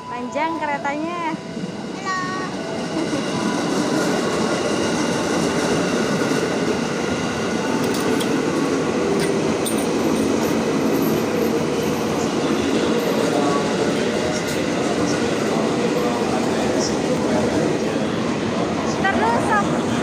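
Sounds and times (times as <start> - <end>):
train wheels and motors rumbling: 1.5 - 18.2.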